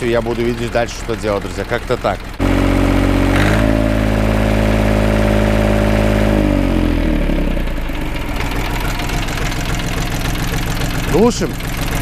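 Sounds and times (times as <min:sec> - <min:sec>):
diesel engine revving and idling: 0:00.0 - 0:12.0.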